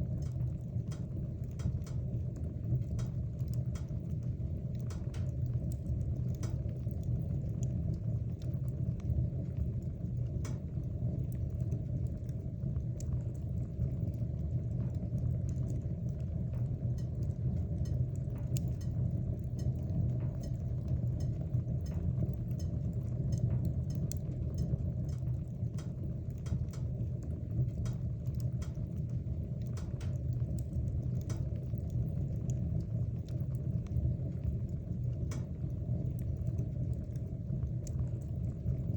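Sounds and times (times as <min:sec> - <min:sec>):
fire flames: 0:00.0 - 0:38.9
wood crackling and popping: 0:00.0 - 0:38.9.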